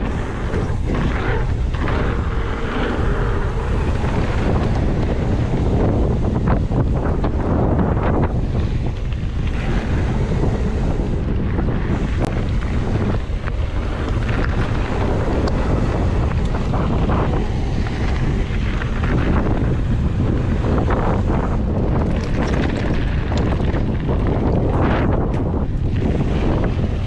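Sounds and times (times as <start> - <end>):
bike rattling over rough ground: 0.0 - 27.0
wind buffeting microphone: 0.0 - 27.0.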